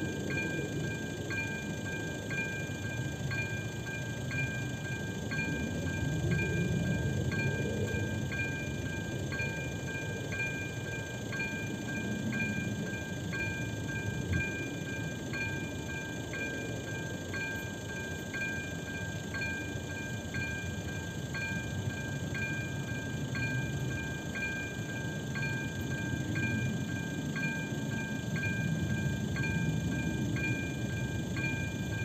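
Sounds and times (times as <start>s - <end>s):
level crossing warning bell dinging: 0.0s - 32.0s.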